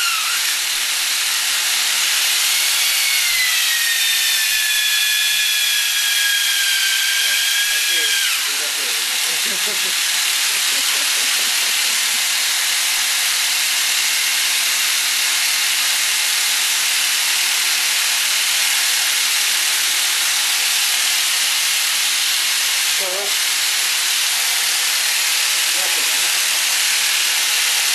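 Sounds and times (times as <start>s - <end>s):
motor whirring: 0.0s - 16.0s, 19.7s - 27.9s.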